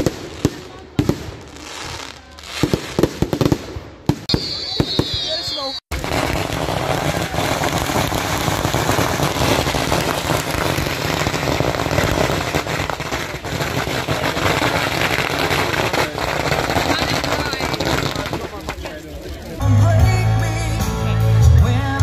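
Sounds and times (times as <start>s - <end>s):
bonfire crackling: 0.0s - 20.4s.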